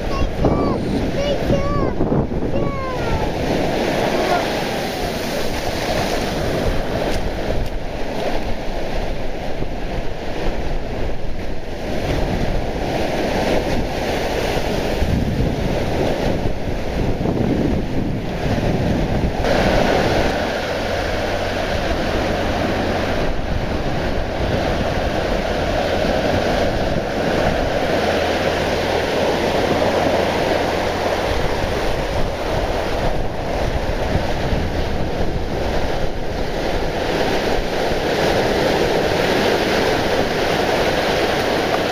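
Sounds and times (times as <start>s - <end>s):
surf breaking on beach: 0.0s - 41.9s
wind buffeting microphone: 0.0s - 41.9s.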